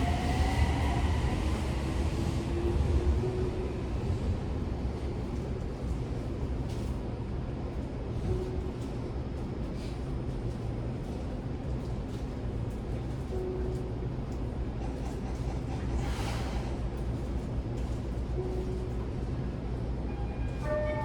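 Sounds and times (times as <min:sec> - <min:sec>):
subway car rumble: 0:00.0 - 0:21.0.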